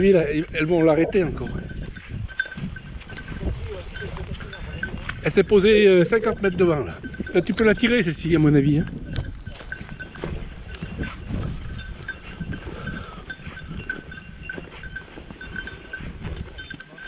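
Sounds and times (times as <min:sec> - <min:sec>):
footsteps through dry bracken: 0:00.0 - 0:17.0
small bell on dog collar clinking: 0:00.0 - 0:17.0.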